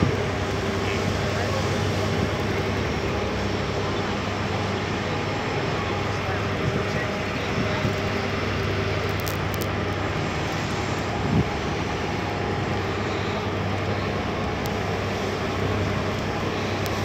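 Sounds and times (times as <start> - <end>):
broad rushing noise: 0.0 - 17.0
ferry engines droning: 0.0 - 17.0.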